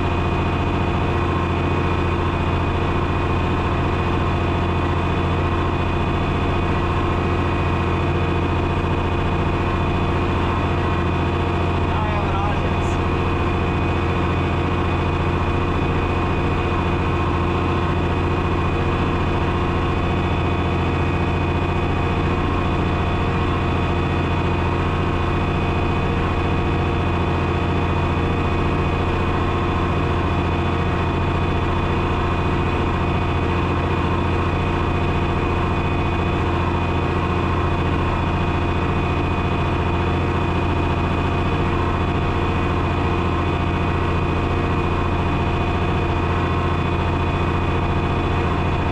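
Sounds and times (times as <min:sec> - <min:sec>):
diesel engine running steadily: 0:00.0 - 0:48.9.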